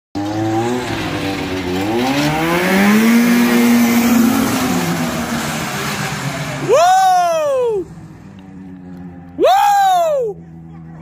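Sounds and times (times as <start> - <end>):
snowmobile engine revving: 0.2 - 11.0.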